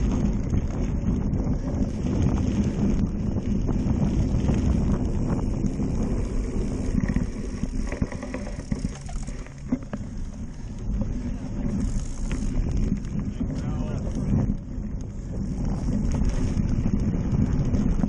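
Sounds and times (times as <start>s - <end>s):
bike rattling clicks: 0.0s - 18.0s
bike tyre rumble: 0.0s - 18.0s
wind buffeting microphone: 0.0s - 18.0s.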